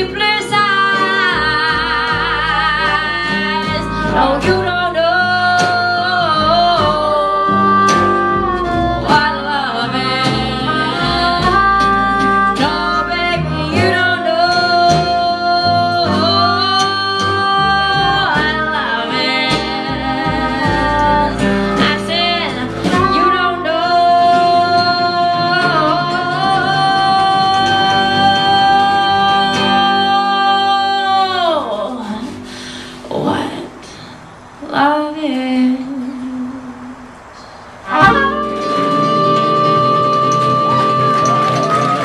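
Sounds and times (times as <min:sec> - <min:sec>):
strummed acoustic guitar: 0:00.0 - 0:34.0, 0:37.8 - 0:42.0.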